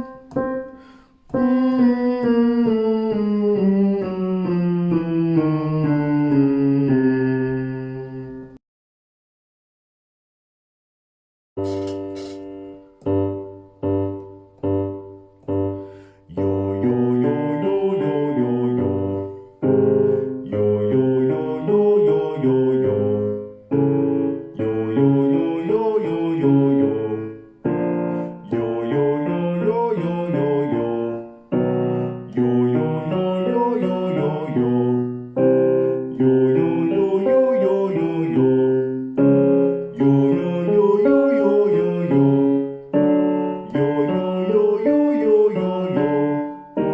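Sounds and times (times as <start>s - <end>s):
person singing vocal exercise: 0.0s - 8.6s, 15.5s - 46.9s
piano accompaniment: 0.0s - 8.6s, 11.6s - 46.9s.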